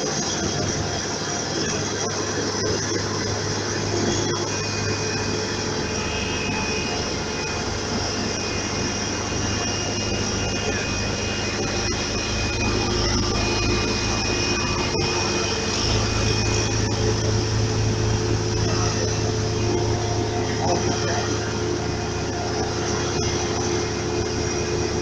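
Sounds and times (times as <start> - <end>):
faint high whine: 0.0 - 25.0
heavy diesel machine drone: 0.0 - 25.0.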